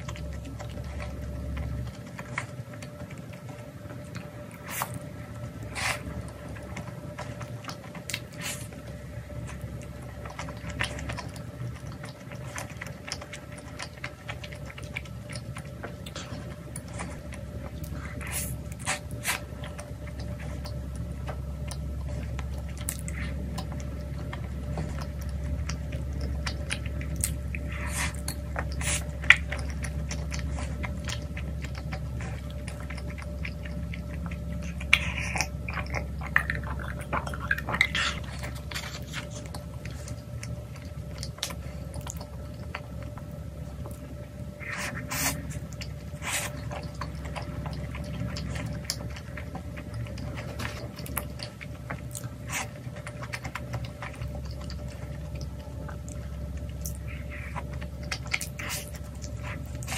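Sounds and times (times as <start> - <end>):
biting and chewing food: 0.0 - 59.9
faint steady hum: 0.0 - 59.9.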